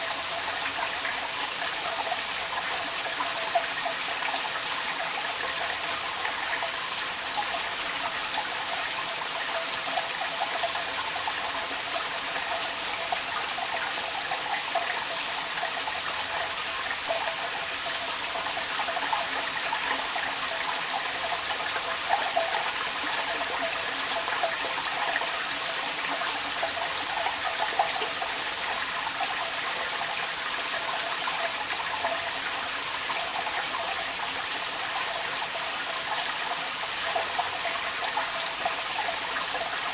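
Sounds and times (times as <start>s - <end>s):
water gurgling from downpipe: 0.0s - 39.9s.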